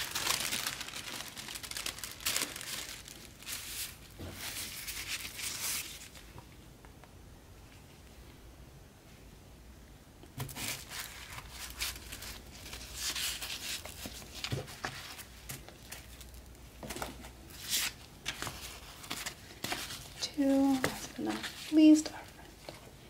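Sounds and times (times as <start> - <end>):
paper rustling and crinkling: 0.0 - 6.4, 10.4 - 23.0.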